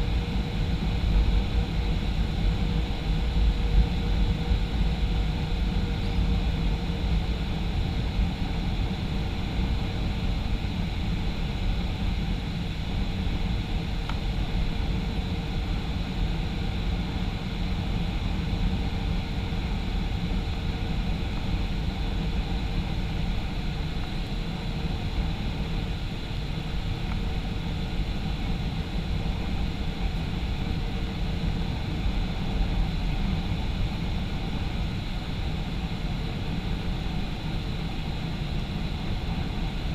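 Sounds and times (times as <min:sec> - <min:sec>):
faint steady whine: 0:00.0 - 0:39.9
jet engine and airflow rumble: 0:00.0 - 0:39.9.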